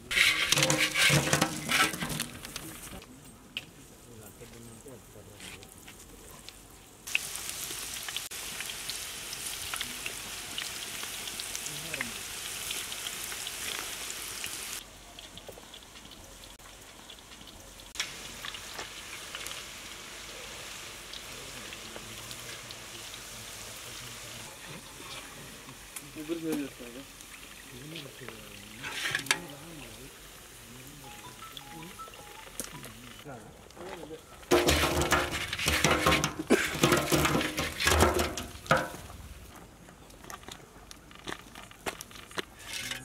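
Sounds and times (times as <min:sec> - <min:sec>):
onion rings deep-frying in oil: 0:00.0 - 0:03.0, 0:04.7 - 0:43.0.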